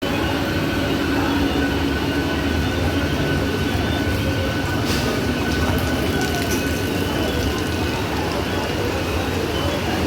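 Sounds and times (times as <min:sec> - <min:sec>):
electric train rumbling: 0:00.0 - 0:10.0.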